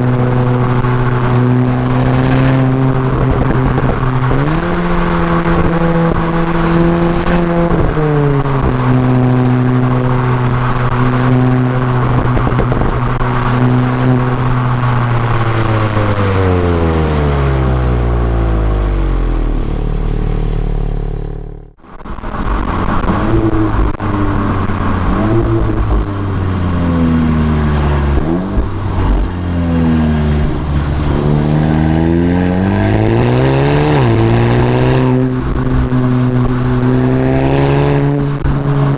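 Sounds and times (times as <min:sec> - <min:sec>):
car exhaust engine note: 0:00.0 - 0:38.9.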